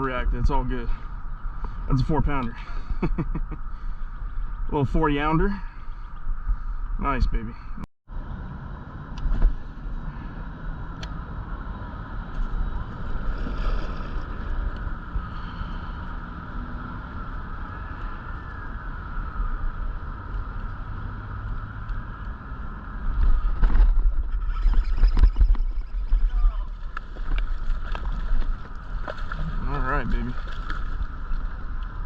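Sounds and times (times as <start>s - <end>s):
faint steady whine: 0.0s - 32.0s
wind buffeting microphone: 0.0s - 32.0s.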